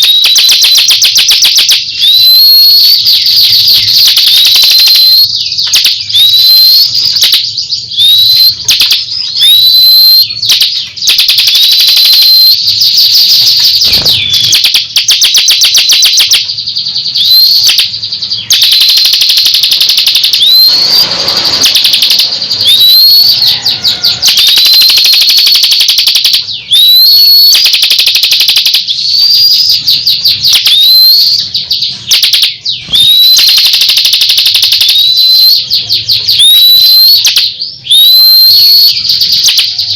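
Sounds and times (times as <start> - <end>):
bird high upward whistles: 0.0 - 16.4, 17.1 - 25.8, 26.6 - 27.8, 29.0 - 31.4, 32.7 - 39.9
bird chattering trills: 0.0 - 39.9.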